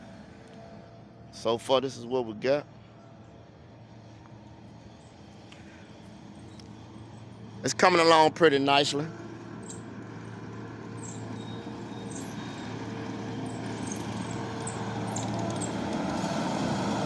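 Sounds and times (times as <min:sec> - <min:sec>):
skid steer engine running: 0:02.8 - 0:17.0.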